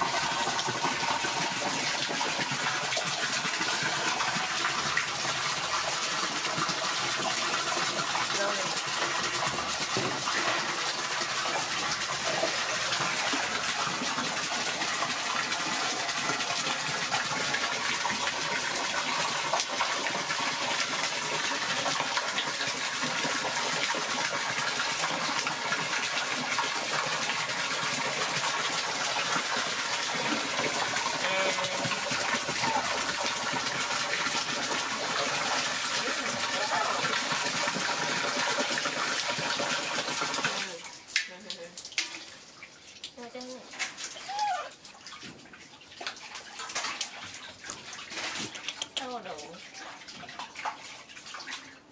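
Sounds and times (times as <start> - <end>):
water gushing into a basin: 0.0 - 51.9.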